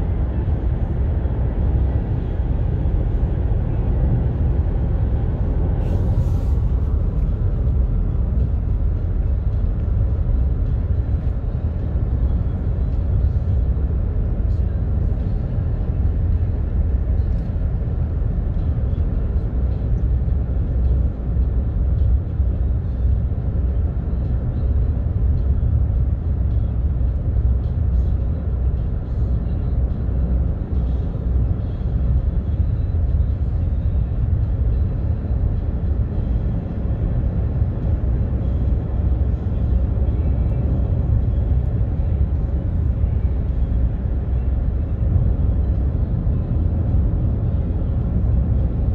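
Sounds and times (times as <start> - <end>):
car cabin road rumble: 0.0 - 48.9.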